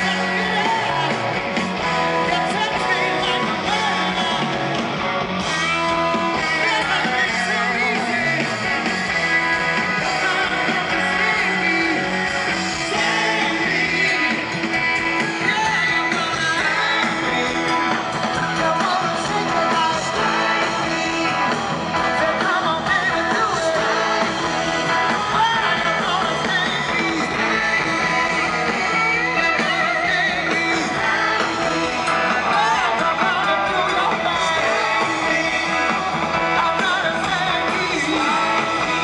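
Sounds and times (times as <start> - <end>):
man singing: 0.0 - 4.6, 5.7 - 39.0
drums: 0.0 - 39.0
electric bass: 0.0 - 39.0
electric guitars: 0.0 - 39.0.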